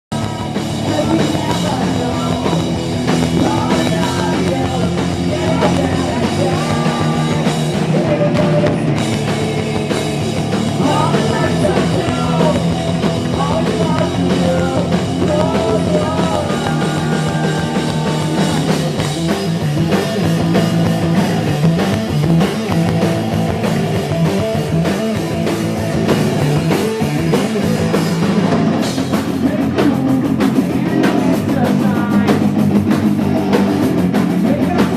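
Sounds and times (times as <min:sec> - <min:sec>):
loud punk rock band playing: 0:00.1 - 0:34.9.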